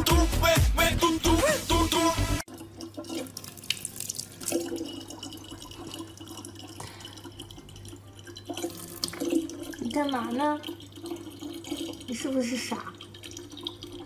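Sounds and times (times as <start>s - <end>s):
faucet water running into jug: 2.4s - 14.0s.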